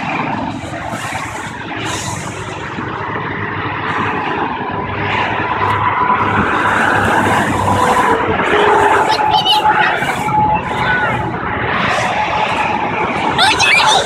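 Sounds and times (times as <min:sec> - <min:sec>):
highway traffic tyre noise: 0:00.0 - 0:14.0
vehicle approaching: 0:00.0 - 0:14.0.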